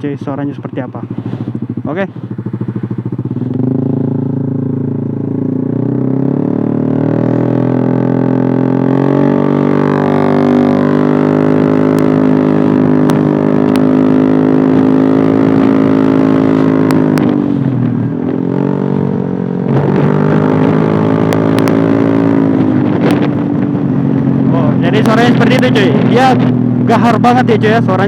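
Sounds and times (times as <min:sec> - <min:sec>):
scooter engine droning: 0:00.0 - 0:28.0.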